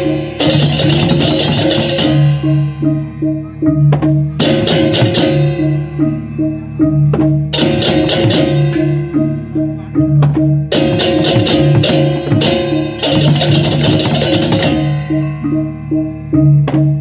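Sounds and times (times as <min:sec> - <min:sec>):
hand drums: 0:00.0 - 0:15.7
crashing hand-cymbal strokes: 0:00.0 - 0:16.7
pitched gong notes: 0:00.0 - 0:17.0.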